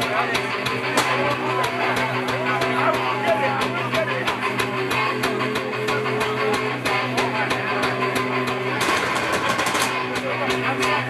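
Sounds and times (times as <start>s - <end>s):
distorted electric guitars and bass: 0.0s - 11.0s
steady drum beat: 0.0s - 11.0s.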